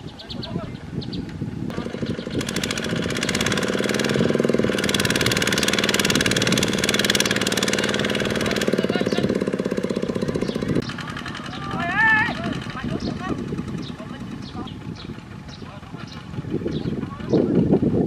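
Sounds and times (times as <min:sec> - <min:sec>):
wheels churning through mud: 0:00.8 - 0:18.0
diesel engine running hard: 0:01.4 - 0:18.0.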